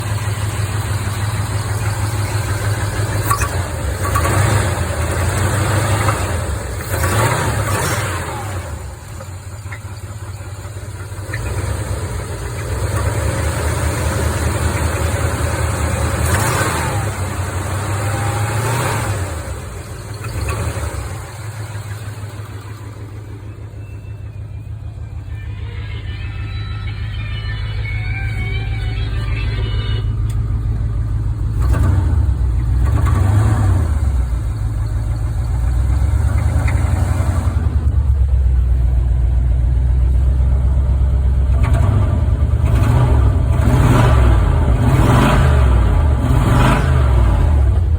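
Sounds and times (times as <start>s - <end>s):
pickup engine revving: 0.0s - 47.9s.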